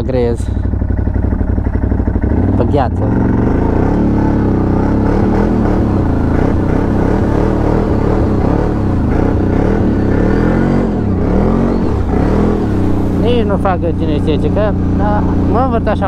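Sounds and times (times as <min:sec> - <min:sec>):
quad engine revving: 0:00.0 - 0:16.0.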